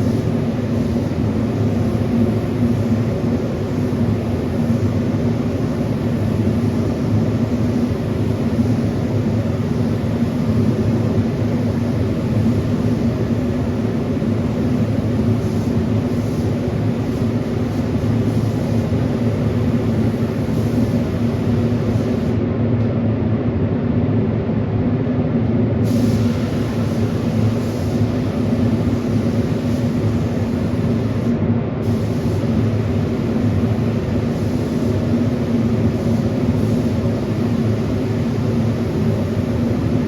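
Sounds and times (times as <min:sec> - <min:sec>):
hiss of air: 0:00.0 - 0:22.4, 0:25.8 - 0:40.0.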